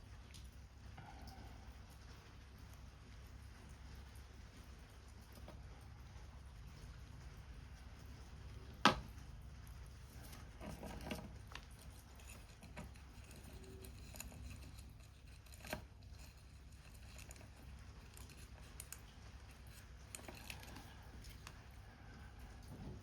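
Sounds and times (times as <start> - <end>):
faint rain patter: 0.0 - 23.0.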